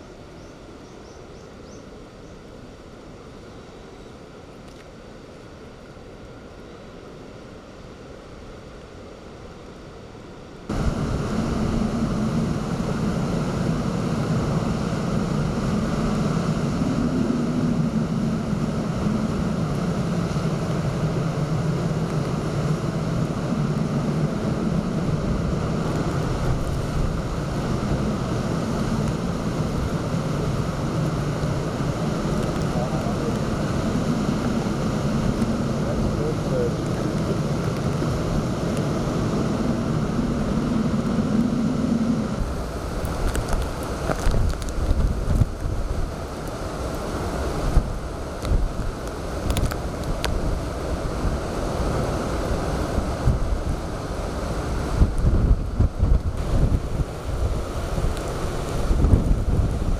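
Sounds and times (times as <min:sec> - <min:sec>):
storm surf: 0:10.5 - 0:59.9
storm wind rushing: 0:10.7 - 0:59.9
wind rumble on microphone: 0:10.7 - 0:59.9.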